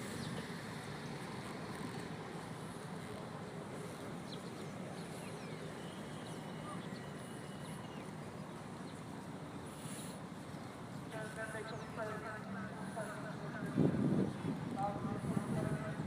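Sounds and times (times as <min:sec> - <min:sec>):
murmur of distant voices: 0:00.0 - 0:16.0
traffic: 0:00.0 - 0:16.0.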